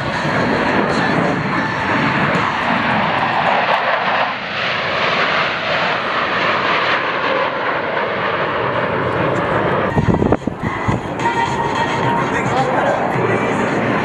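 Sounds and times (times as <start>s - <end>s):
fighter jets flying past: 0.0s - 14.0s.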